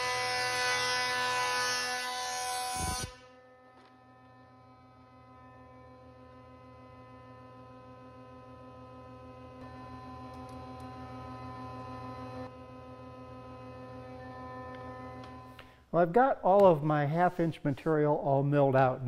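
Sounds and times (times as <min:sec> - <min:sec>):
electric hum: 0:00.0 - 0:18.0.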